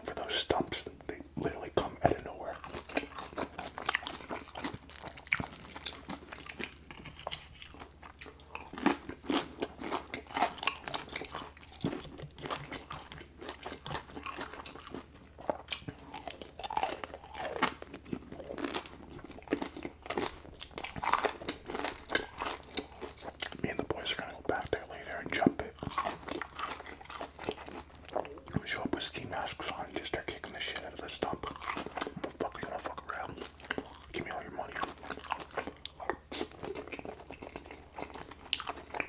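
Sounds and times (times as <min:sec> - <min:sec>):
chewing and crunching fried chicken: 0:00.0 - 0:39.0.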